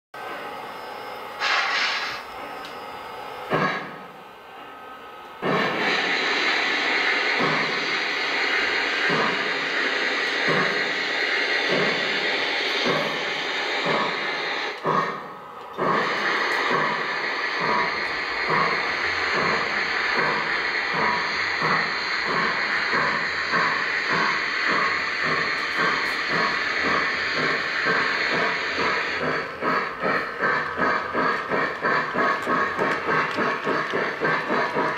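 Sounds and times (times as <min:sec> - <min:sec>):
model train locomotive sound: 0:00.2 - 0:34.9.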